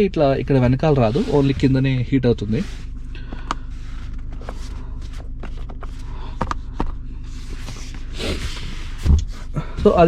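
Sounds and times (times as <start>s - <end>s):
low hum inside car cabin: 0.0s - 10.0s.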